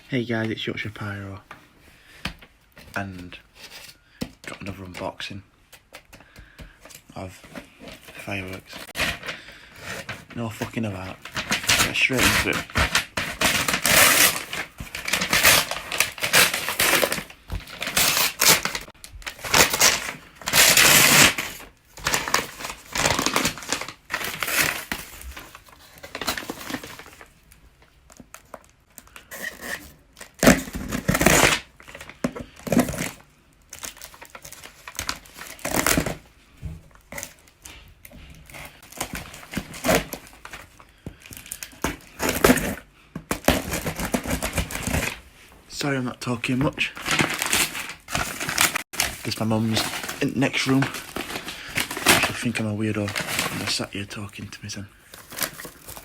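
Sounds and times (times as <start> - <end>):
packaging crinkling and tearing: 6.8 - 36.3, 36.9 - 45.2, 45.8 - 56.0.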